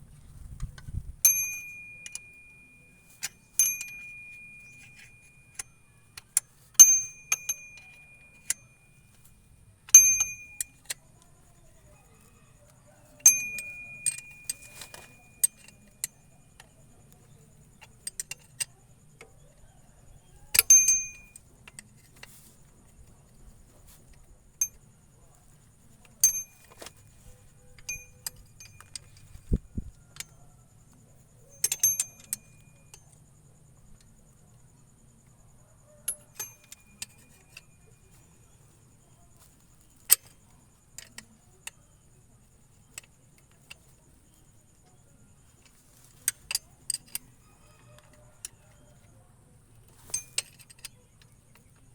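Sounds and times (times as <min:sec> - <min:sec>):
metal parts clinking: 0:01.2 - 0:12.3, 0:13.0 - 0:19.5, 0:20.3 - 0:30.4, 0:31.4 - 0:33.2, 0:36.0 - 0:49.1, 0:49.8 - 0:51.9.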